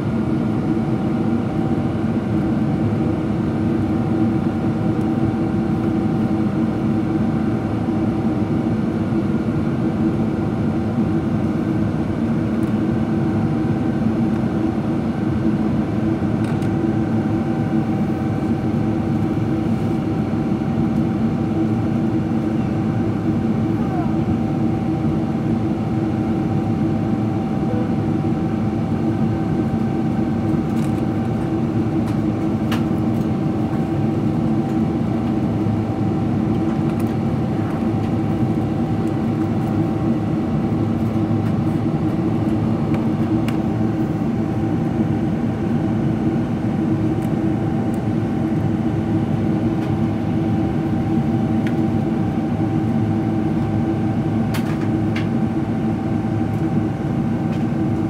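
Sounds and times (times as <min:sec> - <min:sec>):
jet engines humming: 0:00.0 - 0:58.0.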